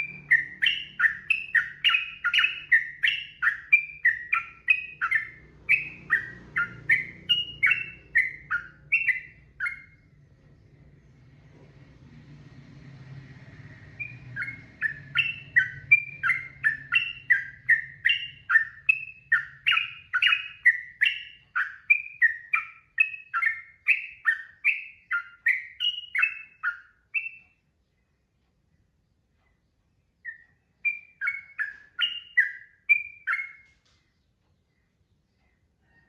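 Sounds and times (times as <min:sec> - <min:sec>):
bulbul singing: 0:00.0 - 0:11.0, 0:13.0 - 0:36.0.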